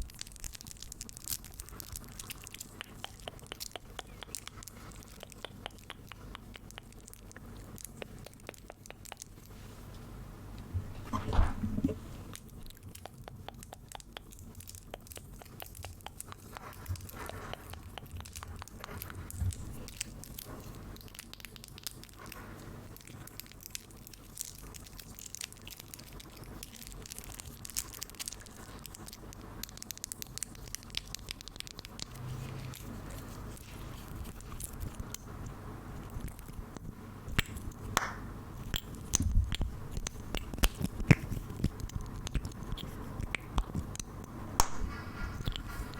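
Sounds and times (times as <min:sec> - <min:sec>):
small crisp clicks and crackles: 0:00.0 - 0:10.0, 0:12.3 - 0:45.9.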